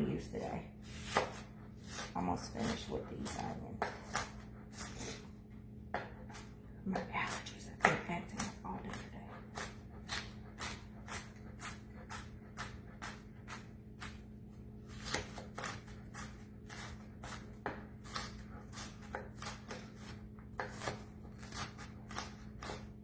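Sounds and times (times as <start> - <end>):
knife chopping onion on board: 0.8 - 5.1, 5.8 - 14.3, 14.9 - 23.0.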